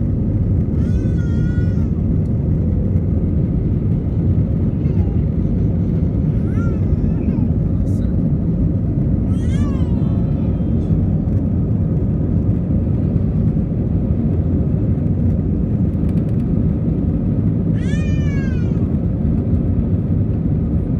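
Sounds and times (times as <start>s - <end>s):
aircraft engine rumble in cabin: 0.0s - 20.9s.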